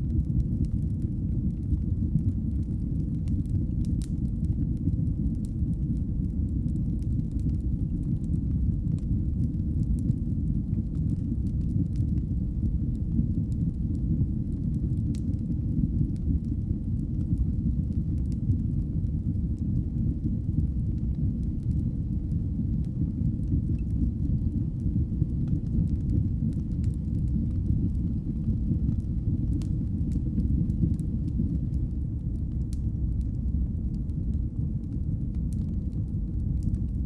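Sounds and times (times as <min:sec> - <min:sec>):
fire crackles and pops: 0:00.0 - 0:37.0
fire flames roaring: 0:00.0 - 0:37.0.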